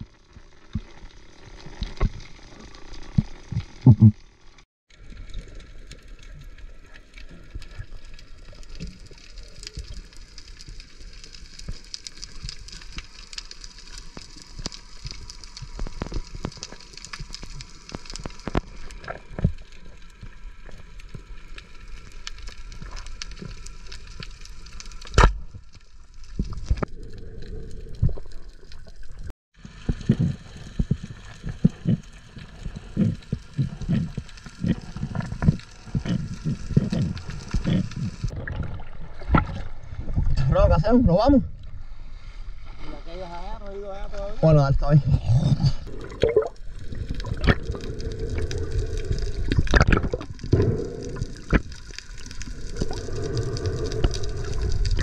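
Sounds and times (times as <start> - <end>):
underwater water noise: 0.0 - 55.0.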